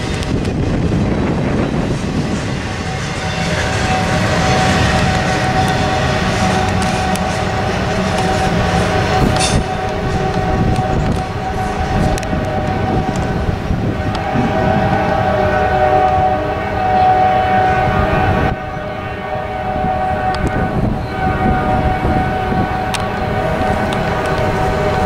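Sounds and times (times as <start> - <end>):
passing train rumble: 0.0 - 25.0
locomotive horn: 1.3 - 25.0.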